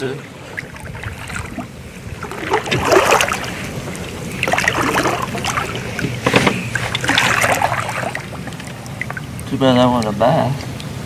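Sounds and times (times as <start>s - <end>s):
water splashing against kayak: 0.0s - 11.0s.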